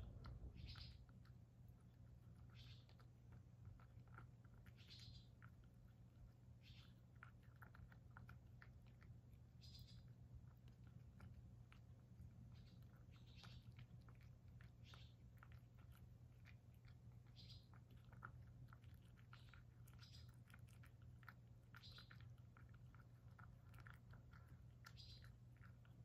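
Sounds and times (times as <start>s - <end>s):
cat chewing with mouth smacks: 0.0s - 26.0s.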